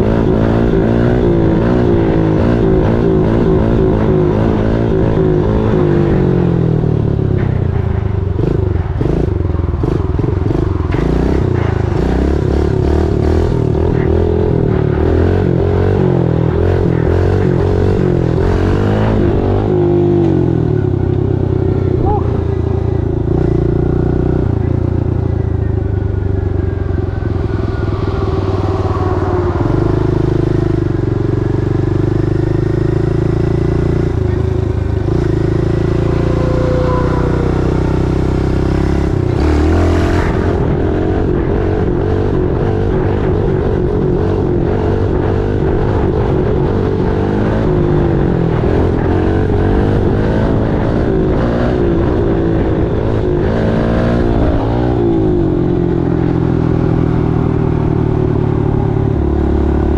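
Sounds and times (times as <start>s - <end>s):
pit bike engine revving: 0.0s - 59.9s.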